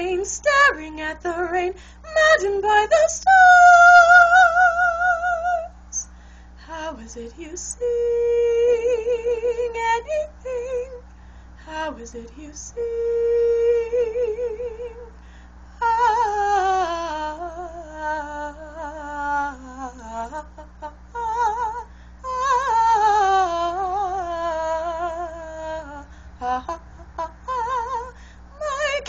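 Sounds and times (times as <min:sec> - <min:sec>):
woman singing vocalise: 0:00.0 - 0:29.0.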